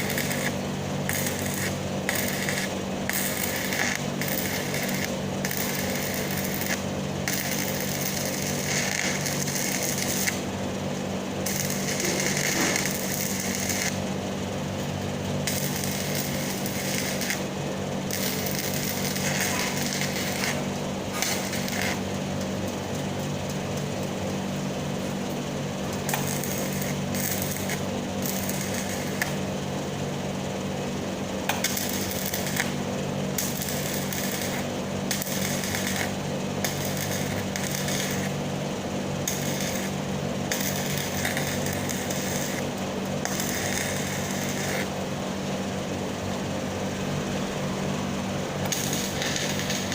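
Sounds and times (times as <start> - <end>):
welding arc crackling: 0.0 - 45.1, 48.5 - 49.9
steady low hum: 0.0 - 49.9.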